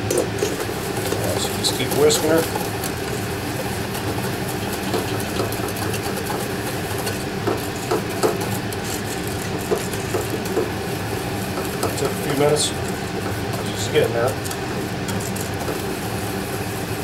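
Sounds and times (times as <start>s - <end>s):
whisk beating in a metal saucepan: 0.0s - 17.0s.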